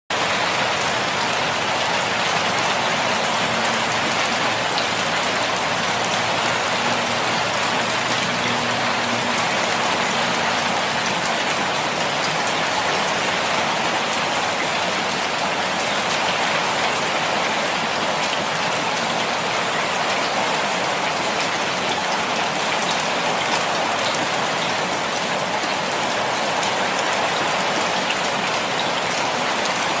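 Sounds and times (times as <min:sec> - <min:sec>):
rain hiss: 0:00.2 - 0:30.0.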